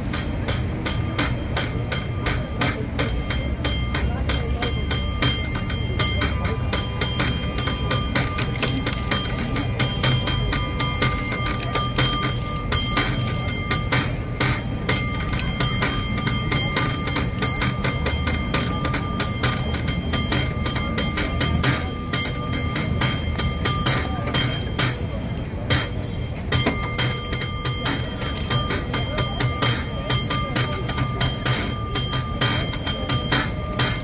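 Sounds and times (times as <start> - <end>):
cable car bell clanging: 0.0 - 34.0.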